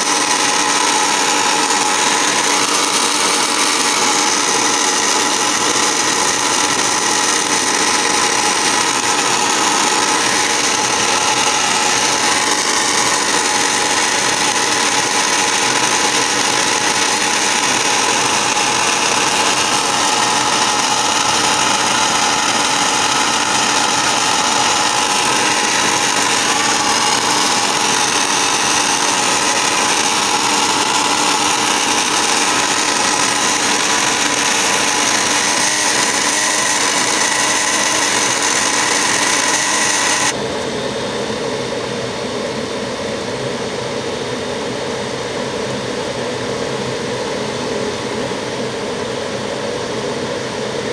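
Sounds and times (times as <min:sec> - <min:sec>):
constant whining tones: 0:00.0 - 0:50.9
furnace mechanical whir: 0:00.0 - 0:50.9.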